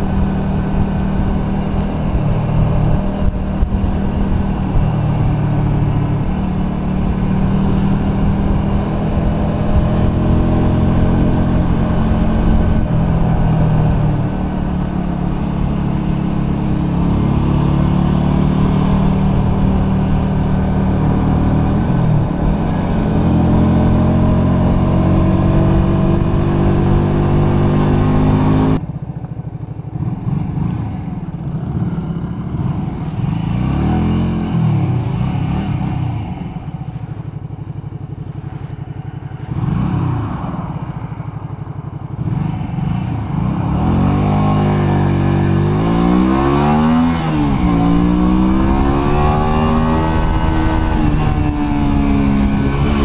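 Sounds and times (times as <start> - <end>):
motorcycle engine running: 0.0 - 53.0
road noise: 0.0 - 53.0.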